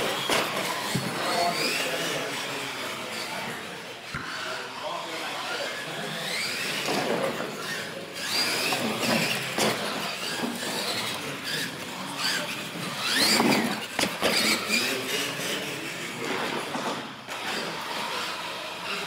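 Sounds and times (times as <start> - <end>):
toy truck motors whining: 0.0 - 19.0.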